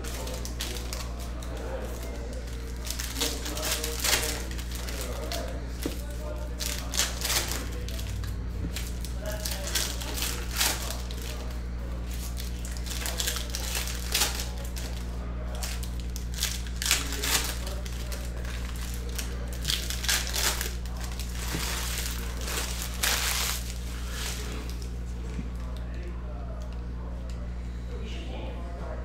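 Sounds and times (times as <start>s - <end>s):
foil wrappers crinkling and tearing: 0.0s - 25.0s
steady low hum: 0.0s - 29.0s.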